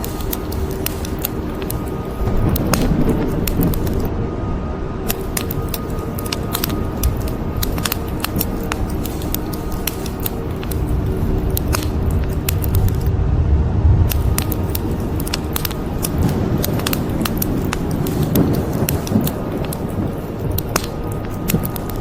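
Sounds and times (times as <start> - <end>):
wood fire crackling: 0.0 - 4.2, 5.0 - 22.0
rain: 0.0 - 22.0
thunder rumble: 0.0 - 22.0.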